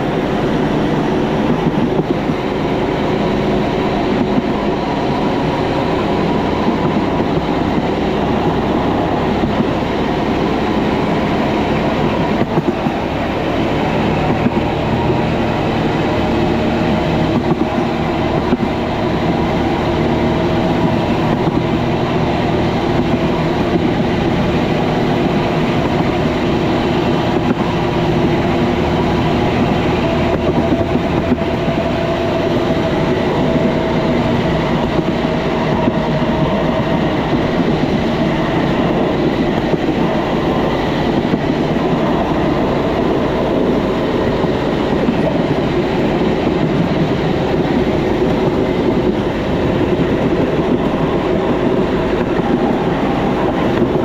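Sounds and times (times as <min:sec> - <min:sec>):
rail cart wheels rattling on rails: 0:00.0 - 0:54.0.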